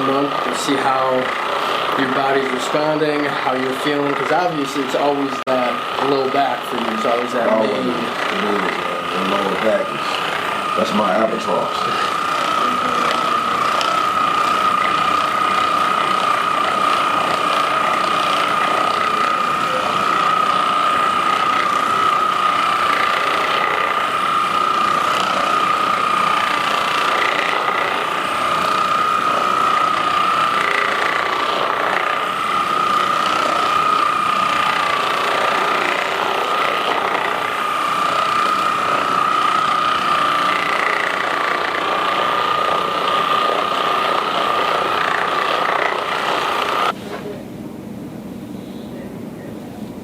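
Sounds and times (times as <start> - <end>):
massage gun motor whine: 0.0 - 47.4.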